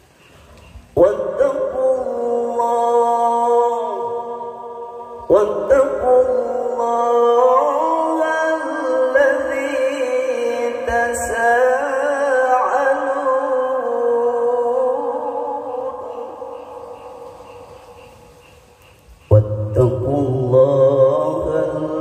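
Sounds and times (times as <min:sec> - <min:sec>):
man chanting with echo: 0:00.6 - 0:22.0.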